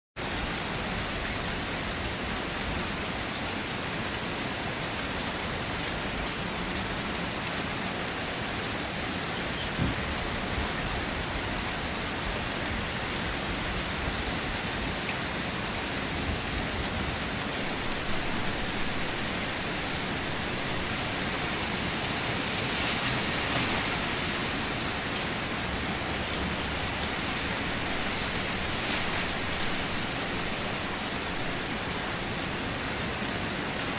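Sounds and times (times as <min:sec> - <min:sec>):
rain on water and concrete: 0:00.2 - 0:33.9.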